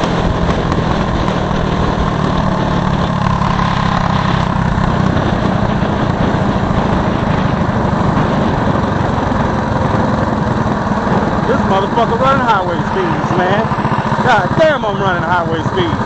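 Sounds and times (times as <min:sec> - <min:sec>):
rushing noise: 0:00.0 - 0:16.0
small engine running hard: 0:00.0 - 0:16.0.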